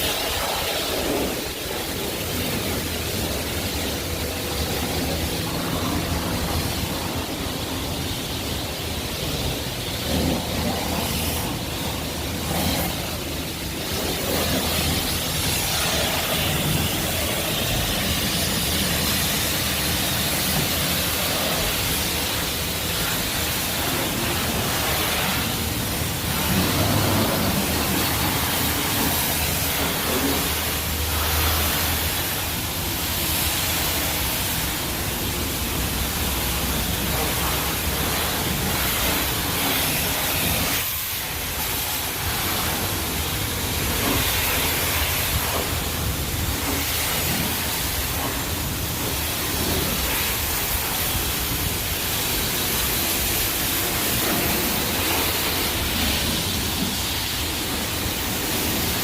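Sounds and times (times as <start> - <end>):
water spraying onto a car: 0.0 - 59.0.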